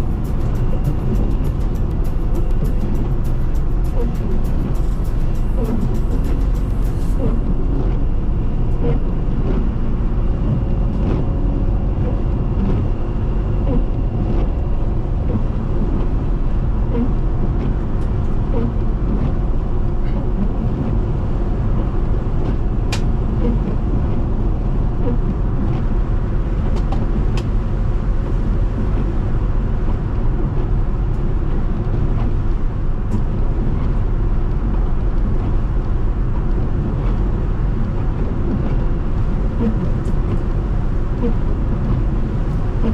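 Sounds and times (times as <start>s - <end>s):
road and engine noise: 0.0s - 42.9s.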